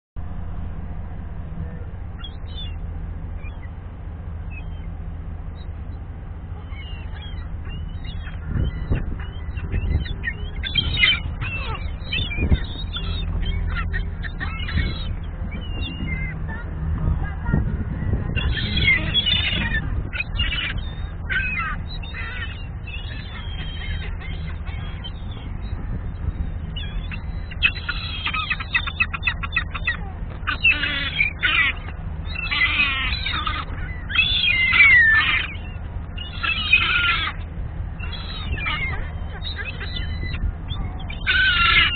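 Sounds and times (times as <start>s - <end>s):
gulls calling: 0.2s - 41.9s
steady low rumble: 0.2s - 41.9s
vehicle engine idling: 0.2s - 41.9s.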